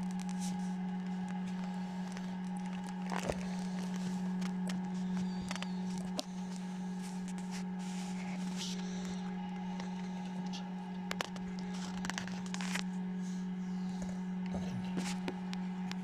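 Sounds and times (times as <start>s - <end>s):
incubator fan humming: 0.0s - 16.0s.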